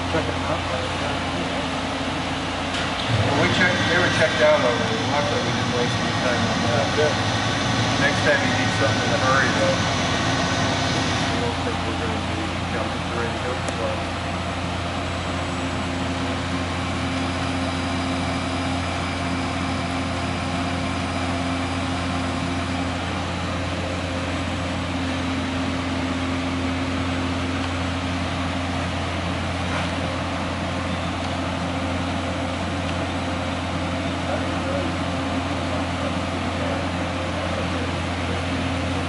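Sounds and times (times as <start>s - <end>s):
furnace fans humming: 0.0s - 39.0s.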